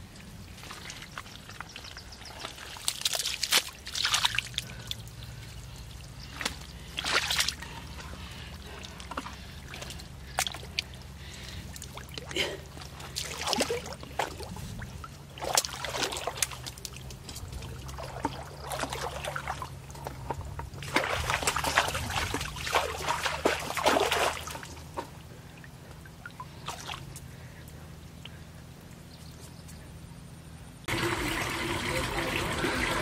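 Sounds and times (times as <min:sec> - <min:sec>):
muddy water sloshing: 0:00.0 - 0:29.1
steady low hum: 0:03.4 - 0:33.0.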